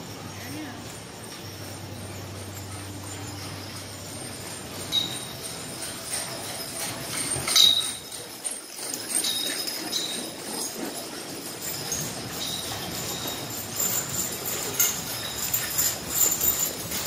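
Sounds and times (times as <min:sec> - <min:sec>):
harness hardware jingling: 0:00.0 - 0:17.0
wooden wagon rattling: 0:00.0 - 0:17.0.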